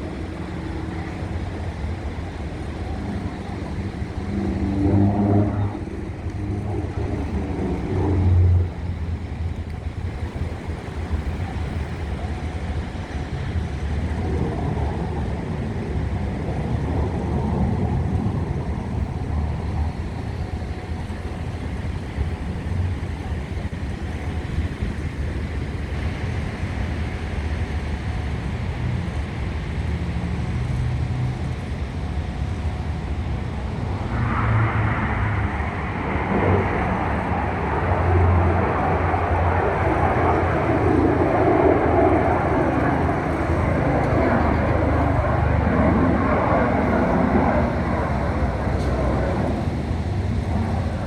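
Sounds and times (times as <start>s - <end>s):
aircraft engine rumble: 0.0s - 51.0s
wind on microphone: 0.0s - 51.0s.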